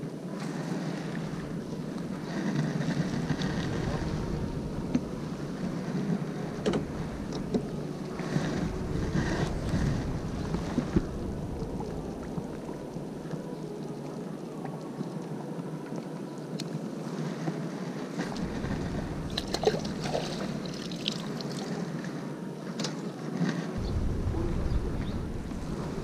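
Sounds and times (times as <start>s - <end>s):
wind on the microphone: 0.0s - 14.9s, 17.1s - 22.6s, 23.6s - 26.0s.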